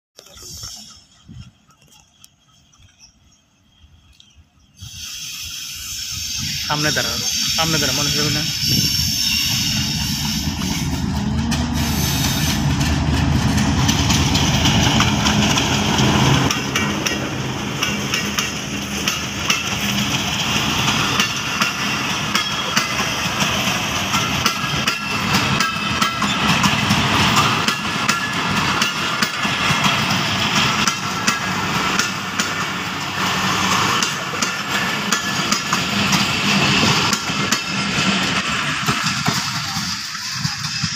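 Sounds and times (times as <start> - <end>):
diesel locomotive engine: 0.2 - 40.9
train coaches rumbling past: 0.2 - 40.9
steel wheels clattering on rails: 6.4 - 40.9.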